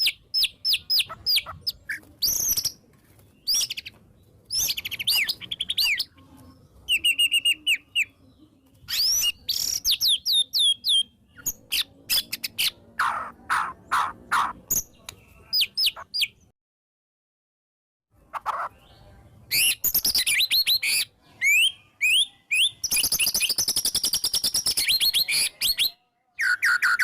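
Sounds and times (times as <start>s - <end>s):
songbird singing varied song: 0.0s - 16.5s, 18.2s - 27.0s.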